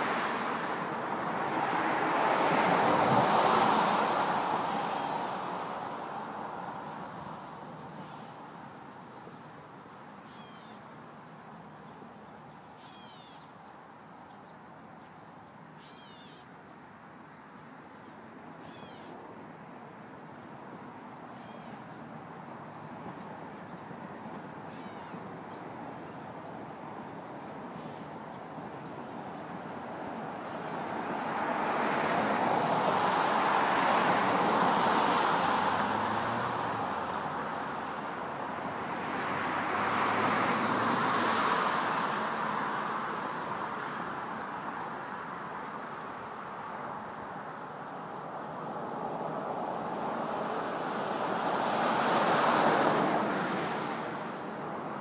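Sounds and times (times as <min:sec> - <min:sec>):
vehicles passing: 0:00.0 - 0:55.0.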